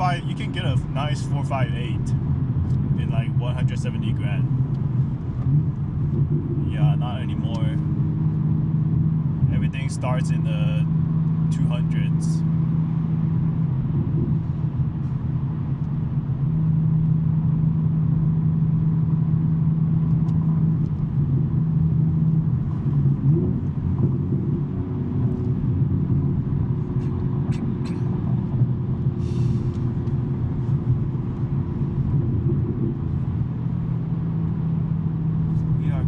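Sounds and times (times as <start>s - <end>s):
car engine droning: 0.0s - 36.0s.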